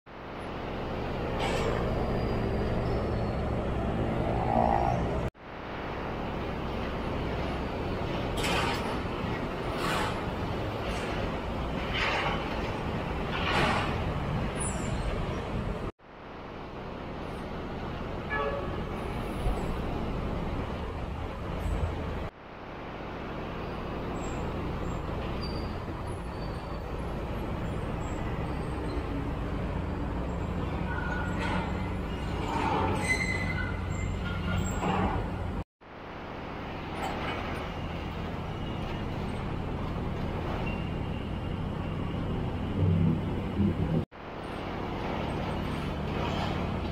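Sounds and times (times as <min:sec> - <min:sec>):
heavy road traffic rumble: 0:00.1 - 0:46.9.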